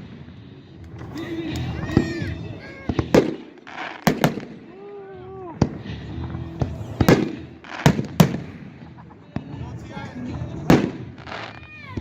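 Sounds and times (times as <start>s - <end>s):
fireworks bangs: 0.0s - 12.0s
people's voices: 0.4s - 12.0s.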